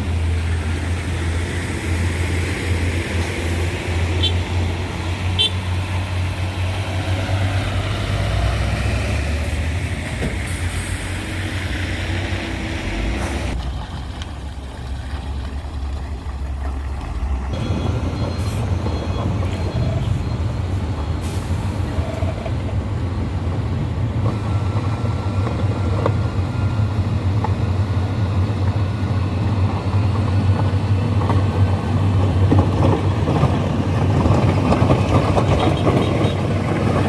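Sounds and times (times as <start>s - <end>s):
heavy diesel machinery rumble: 0.0s - 37.0s.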